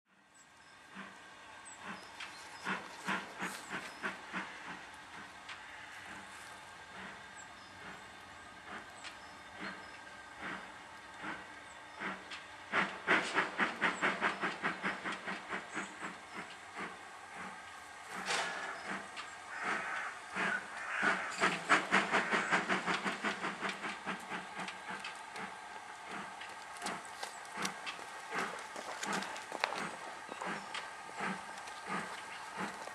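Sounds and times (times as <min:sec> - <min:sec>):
steam locomotive exhaust beats: 0:00.1 - 0:32.9
steady hiss of steam: 0:00.9 - 0:32.9.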